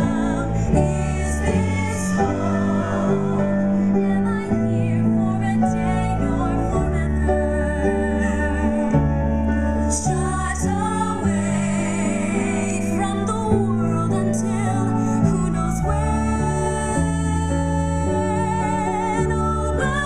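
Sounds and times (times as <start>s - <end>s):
women singing together: 0.0s - 9.1s, 9.9s - 20.0s.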